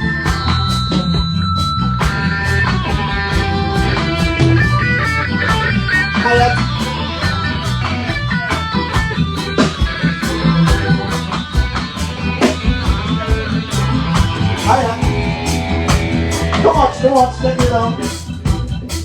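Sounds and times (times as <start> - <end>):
electric guitar notes: 0.0 - 18.7
drum kit: 0.0 - 19.0
steady bass line: 0.0 - 19.0.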